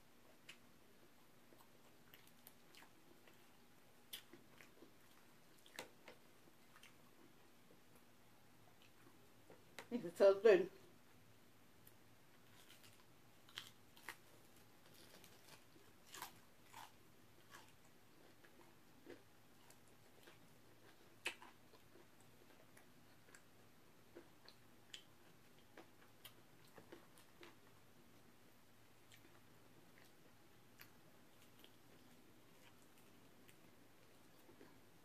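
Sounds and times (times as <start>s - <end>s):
chewing fried chicken: 0.2s - 10.0s, 11.8s - 35.0s.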